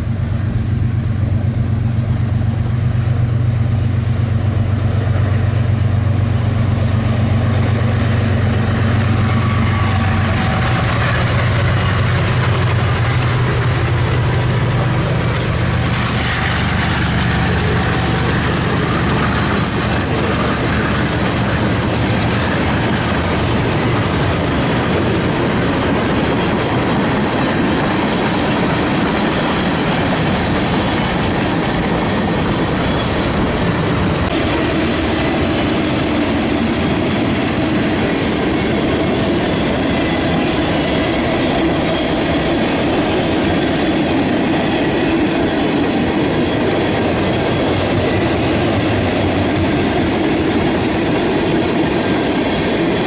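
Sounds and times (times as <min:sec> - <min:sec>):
freight train wheels rumbling: 0:00.0 - 0:53.0
wheels clacking over rail joints: 0:04.5 - 0:53.0.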